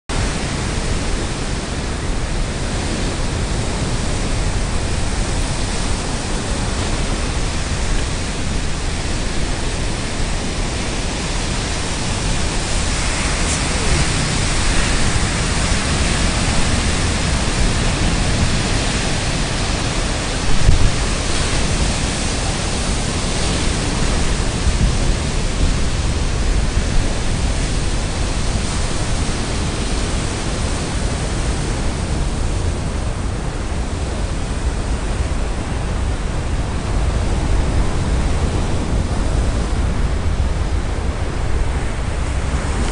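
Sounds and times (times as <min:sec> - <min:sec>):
ocean surf breaking: 0:00.1 - 0:42.9
wind buffeting microphone: 0:00.1 - 0:42.9.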